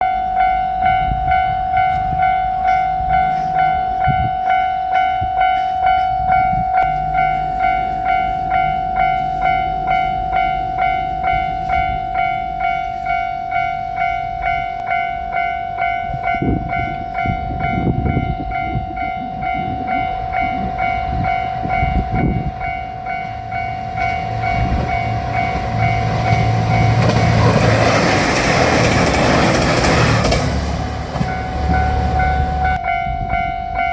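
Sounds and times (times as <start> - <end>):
diesel railcar passing: 0.0 - 33.9
level crossing warning bell: 0.0 - 33.9.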